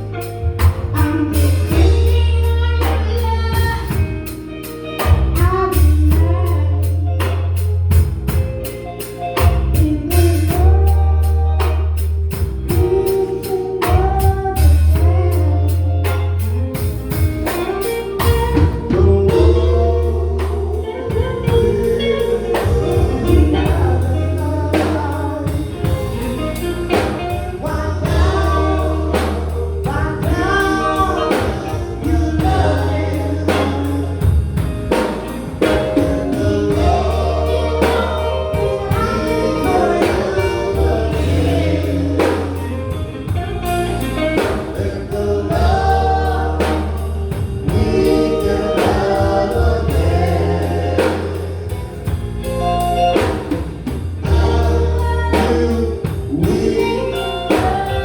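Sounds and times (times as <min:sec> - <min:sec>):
deep bass notes: 0:00.0 - 0:58.0
drum kit beat: 0:00.0 - 0:58.0
voices singing gospel: 0:00.0 - 0:58.0.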